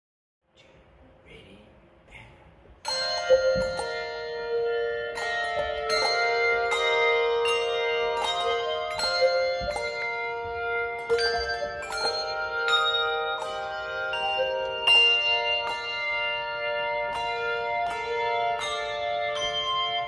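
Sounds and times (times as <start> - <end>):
handbell choir ringing: 2.8 - 20.0.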